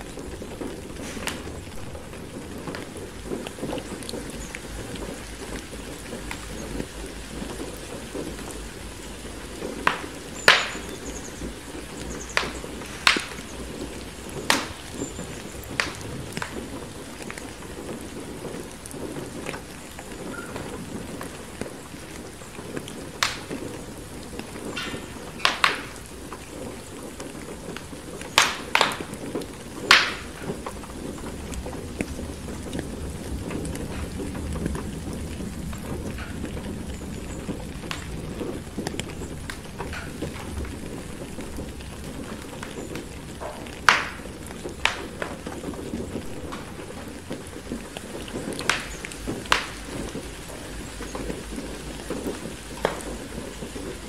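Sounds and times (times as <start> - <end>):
steady rain: 0.0 - 54.0
wood fire crackling and popping: 0.0 - 54.0.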